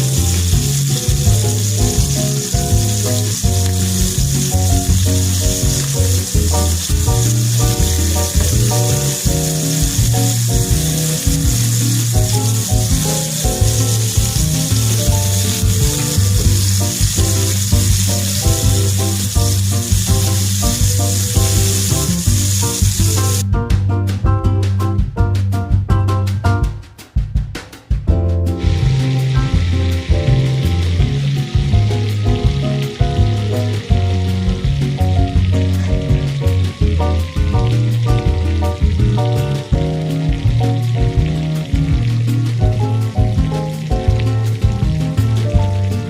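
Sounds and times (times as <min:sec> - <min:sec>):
food sizzling in a frying pan: 0:00.0 - 0:23.4, 0:28.6 - 0:46.0
background music with strong bass: 0:00.0 - 0:46.0.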